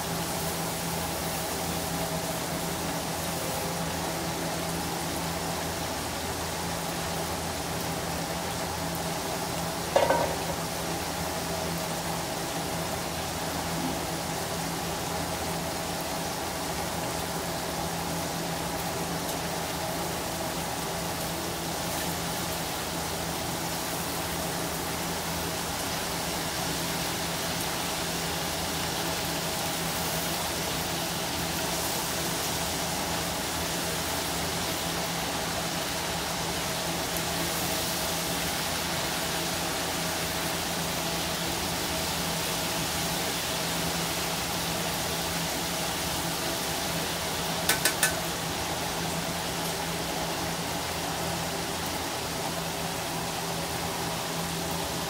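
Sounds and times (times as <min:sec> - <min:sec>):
faint steady hum: 0:00.0 - 0:55.0
oil sizzling and bubbling: 0:00.0 - 0:55.0.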